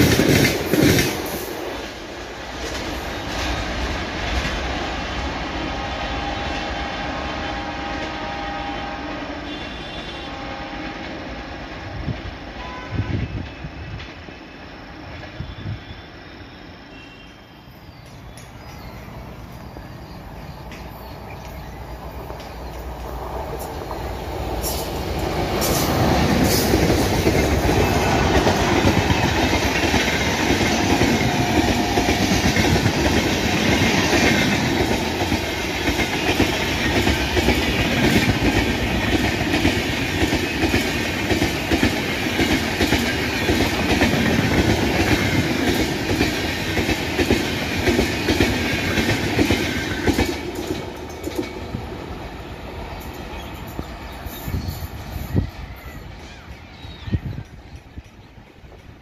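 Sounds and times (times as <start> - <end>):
train wheels running over rails: 0.0 - 8.7, 17.8 - 59.0.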